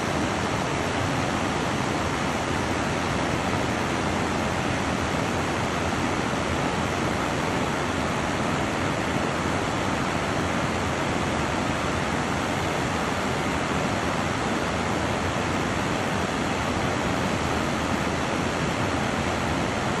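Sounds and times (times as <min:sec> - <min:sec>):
water rushing over weir: 0:00.0 - 0:20.0.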